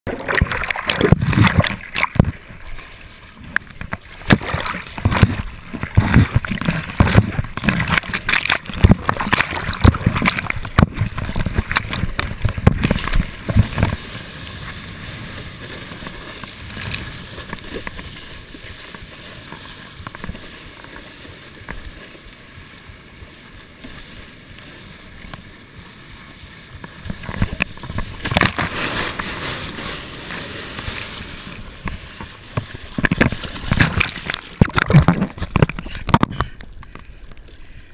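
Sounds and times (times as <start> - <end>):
ocean surf breaking: 0.1 - 36.4.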